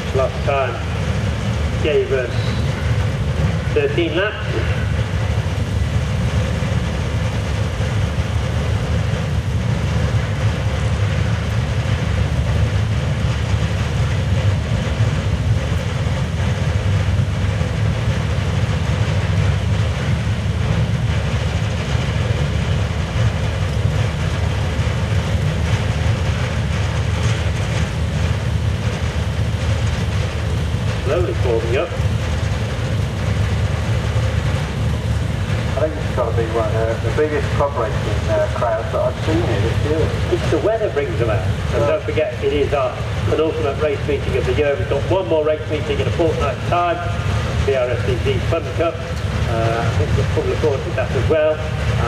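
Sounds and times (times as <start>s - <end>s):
racing car engines rumbling: 0.0s - 52.0s.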